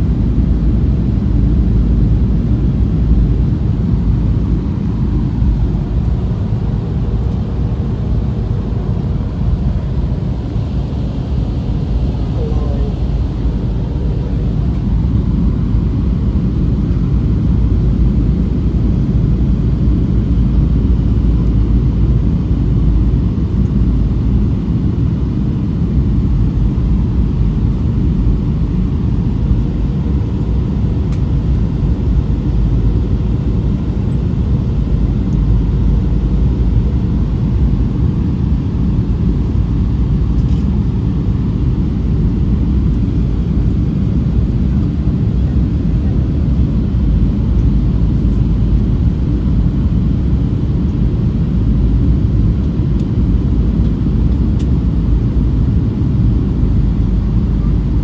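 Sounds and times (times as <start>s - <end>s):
airliner engine rumble in cabin: 0.0s - 58.0s.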